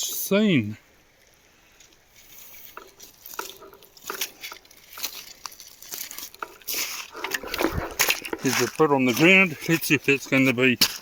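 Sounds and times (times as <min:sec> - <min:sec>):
footsteps on rocky riverbed: 0:01.3 - 0:11.0.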